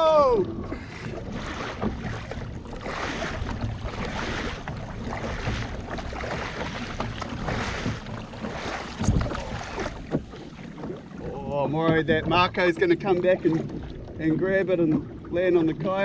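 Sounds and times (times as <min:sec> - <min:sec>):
water sloshing against kayak: 0:00.0 - 0:16.0
wind buffeting microphone: 0:00.0 - 0:16.0.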